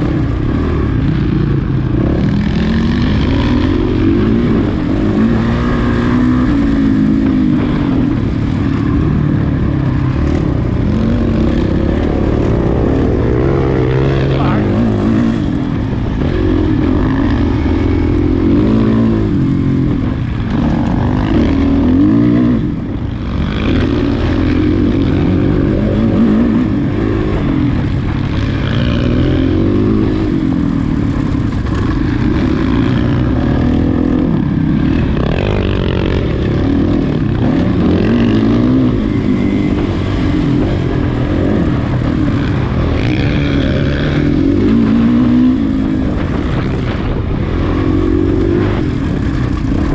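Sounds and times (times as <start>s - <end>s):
motorcycle engine revving: 0.0s - 49.9s
steady rush of noise: 0.0s - 49.9s.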